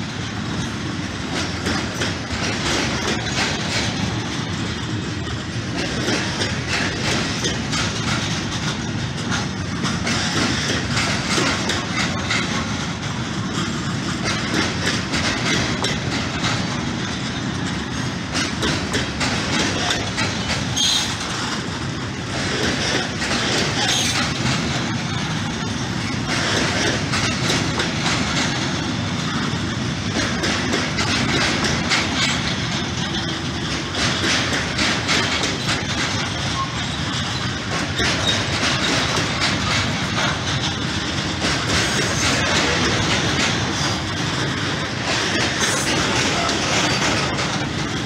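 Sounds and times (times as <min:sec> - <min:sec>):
train wheels clattering over rail joints: 0:00.0 - 0:48.0.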